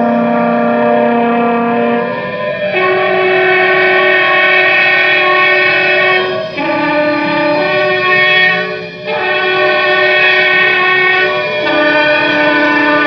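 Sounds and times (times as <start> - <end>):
horns playing long tones: 0.0 - 13.0
trumpet held tones: 0.0 - 13.0.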